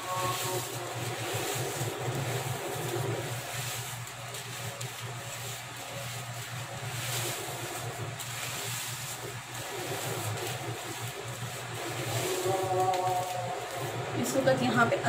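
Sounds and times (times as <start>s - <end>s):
fried onions crumbling by hand: 0.0s - 14.6s
steady low hum: 0.0s - 15.0s.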